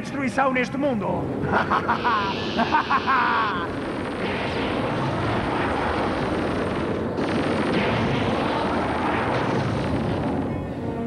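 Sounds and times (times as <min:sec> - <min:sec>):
cartoon energy beams firing: 0:01.5 - 0:10.7.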